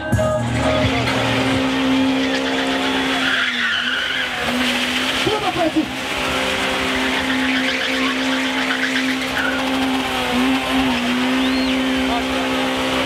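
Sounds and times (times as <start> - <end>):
car engine at high revs: 0.0 - 13.0
tyres spinning on tarmac: 0.4 - 13.0.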